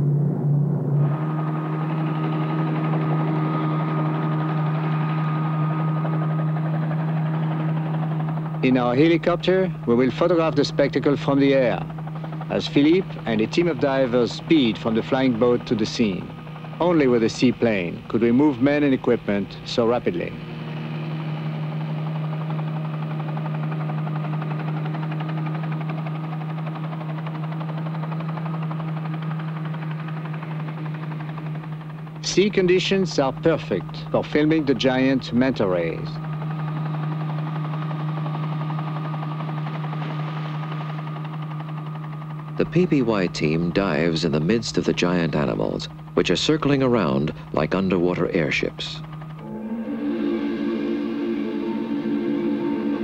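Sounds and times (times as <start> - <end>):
faint high whine: 0.0 - 53.0
helicopter engine and rotor: 0.0 - 53.0.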